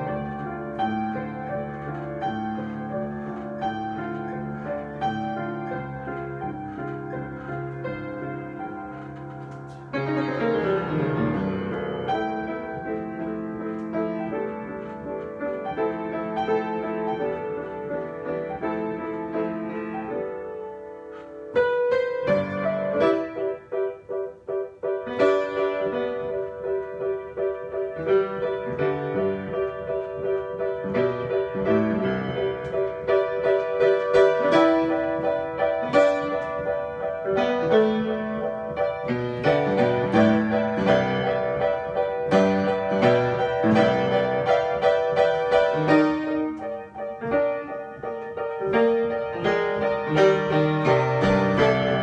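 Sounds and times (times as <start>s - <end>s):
solo piano: 0.0s - 52.0s.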